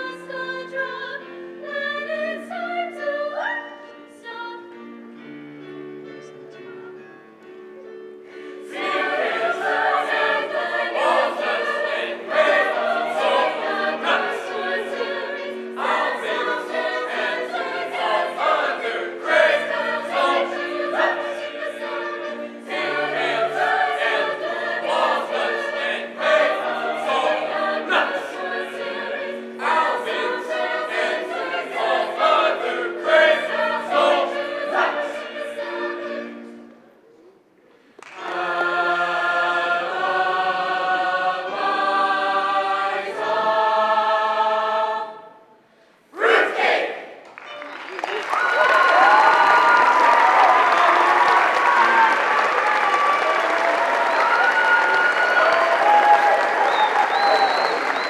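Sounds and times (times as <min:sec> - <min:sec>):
choir singing: 0:00.0 - 0:05.4, 0:08.2 - 0:37.3, 0:38.1 - 0:47.2, 0:48.0 - 0:58.0.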